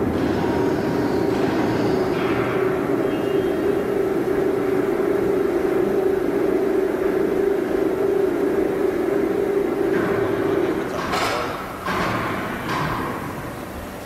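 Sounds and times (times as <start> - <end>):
bending machine drone: 0.0 - 13.2
high machine whine: 0.0 - 13.8.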